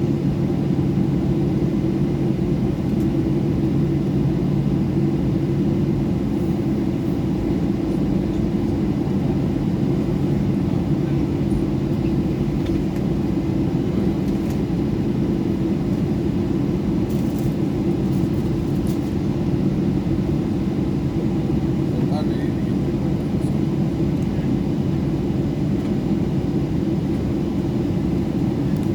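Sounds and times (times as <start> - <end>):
jet engines in cabin: 0.0 - 28.9.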